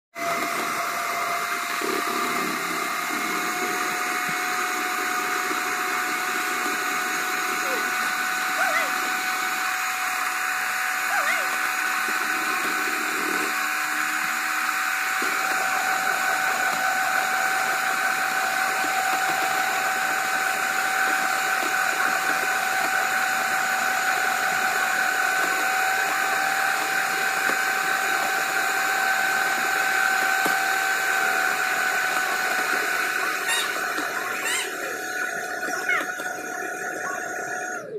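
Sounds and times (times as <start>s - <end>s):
electric hand mixer whisking batter: 0.1s - 37.9s.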